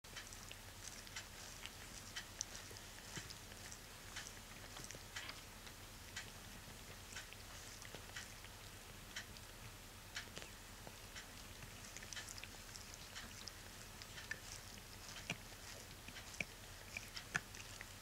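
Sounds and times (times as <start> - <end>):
low steady hum: 0.0 - 18.0
cat licking fur: 0.1 - 18.0.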